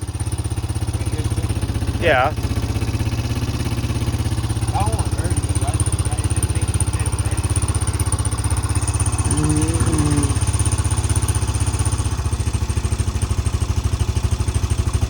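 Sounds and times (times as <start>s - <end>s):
small motorbike engine idling: 0.0s - 15.0s.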